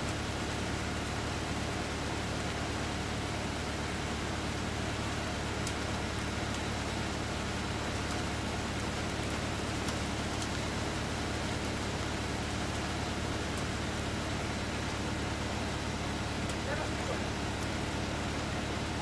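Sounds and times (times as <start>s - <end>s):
pickup engine idling: 0.1s - 19.0s.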